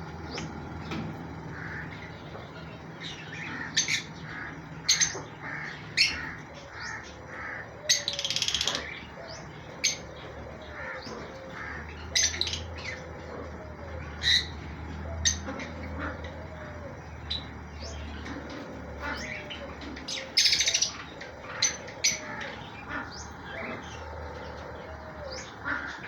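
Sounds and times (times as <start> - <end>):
buzzing rattling bird call: 0.0 - 26.0
parakeets squawking: 0.0 - 26.0.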